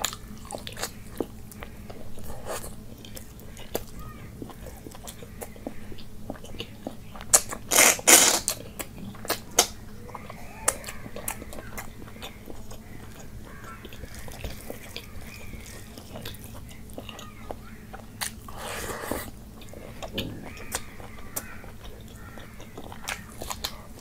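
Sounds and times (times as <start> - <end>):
wet chewing and lip smacks: 0.0 - 7.8, 8.5 - 24.0.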